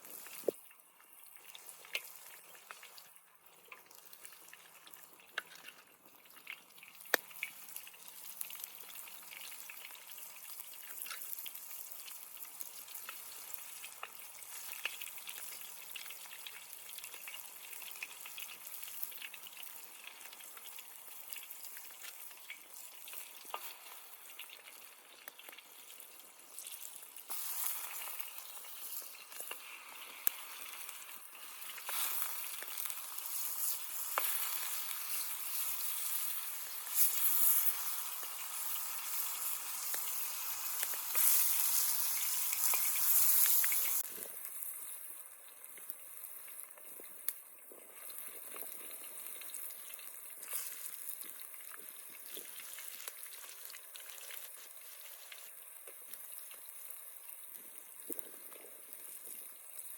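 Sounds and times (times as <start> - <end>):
food sizzling in hot oil: 0.0 - 59.9
oil crackling and popping: 0.0 - 59.9.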